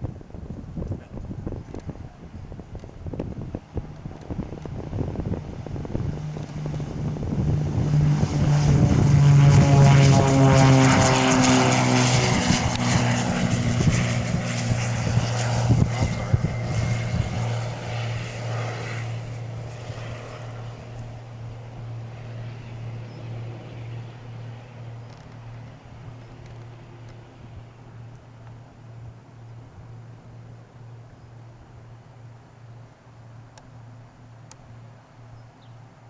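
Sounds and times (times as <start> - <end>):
propeller plane passing: 0.0 - 36.0.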